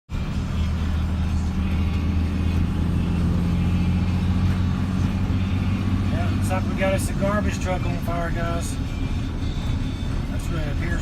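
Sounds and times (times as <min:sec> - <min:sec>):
car engine and road noise: 0:00.1 - 0:11.0.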